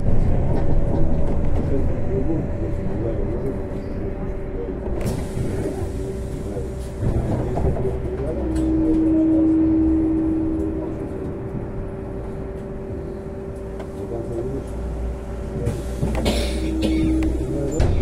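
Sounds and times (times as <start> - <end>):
trolleybus electrical hum: 0.0 - 18.0.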